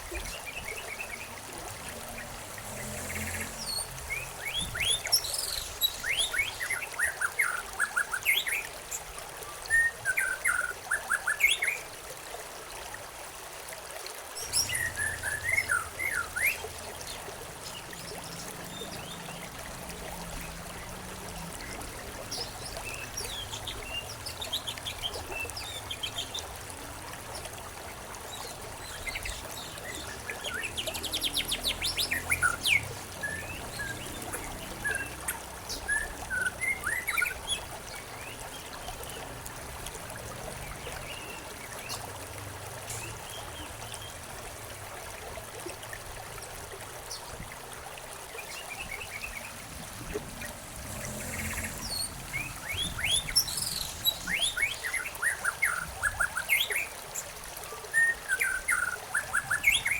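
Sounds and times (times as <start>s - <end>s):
songbirds chirping and trilling: 0.0s - 11.8s, 14.4s - 39.8s, 48.4s - 59.9s
trickle of running water: 0.0s - 59.9s.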